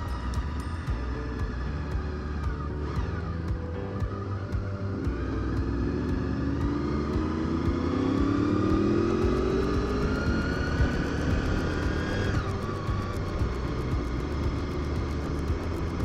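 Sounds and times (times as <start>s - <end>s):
motorcycle engine accelerating: 0.0s - 16.0s
wind and road noise: 0.0s - 16.0s.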